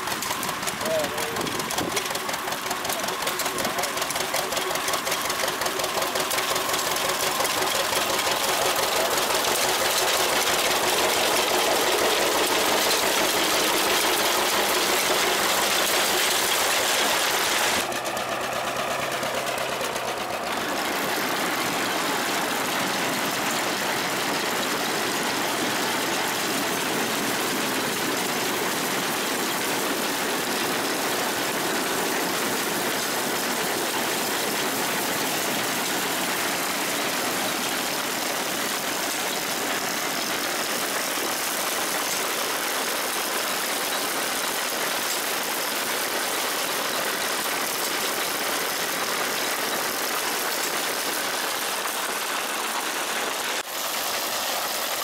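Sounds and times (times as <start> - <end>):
two-cylinder tractor engine: 0.0 - 55.0.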